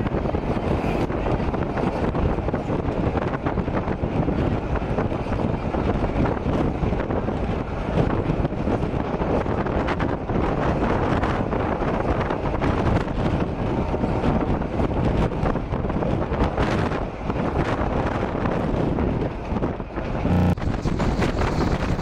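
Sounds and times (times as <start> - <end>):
train rattles and clicks: 0.0 - 22.0
train wheels rumbling on track: 0.0 - 22.0
wind on microphone: 0.0 - 22.0.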